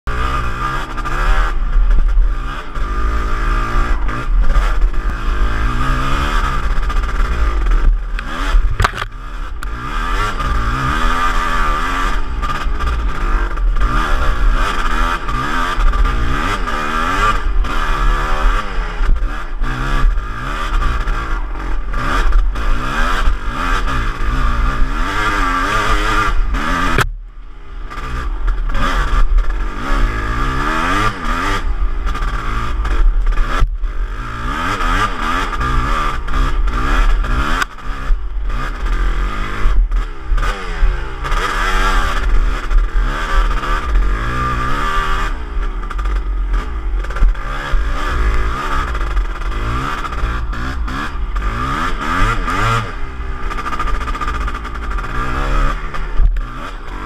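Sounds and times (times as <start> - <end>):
motocross bike engine revving: 0.1 - 57.0.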